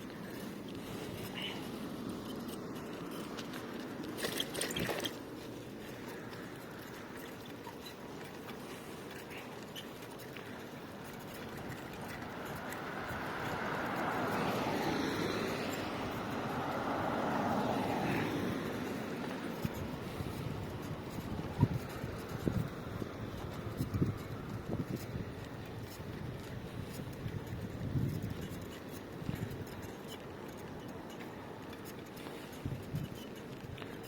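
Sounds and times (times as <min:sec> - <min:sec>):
motor vehicle running: 0:00.0 - 0:34.0.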